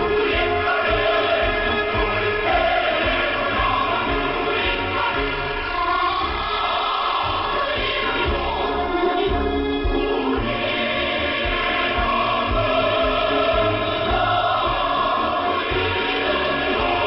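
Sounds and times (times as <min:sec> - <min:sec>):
choir singing over radio: 0:00.0 - 0:17.0.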